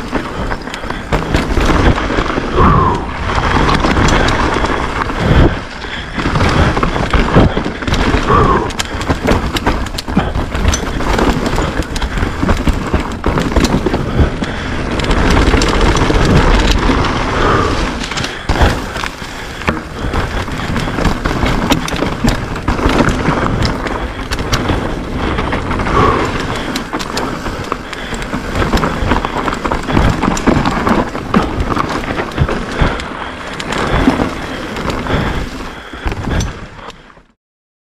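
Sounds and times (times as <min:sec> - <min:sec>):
mountain bike rushing downhill: 0:00.0 - 0:37.3
bike knocking and rattling: 0:00.0 - 0:37.4.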